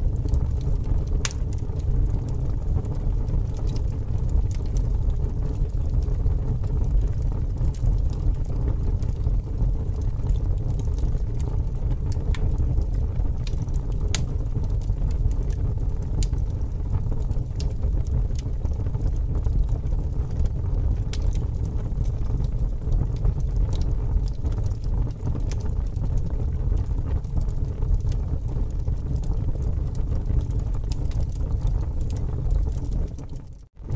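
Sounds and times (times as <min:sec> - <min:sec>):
bonfire rumbling: 0:00.0 - 0:33.9
burning wood crackling: 0:00.0 - 0:33.9.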